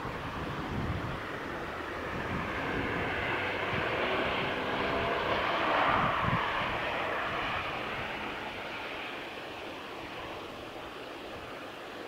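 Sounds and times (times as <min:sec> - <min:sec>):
aircraft flying over: 0:00.0 - 0:12.0.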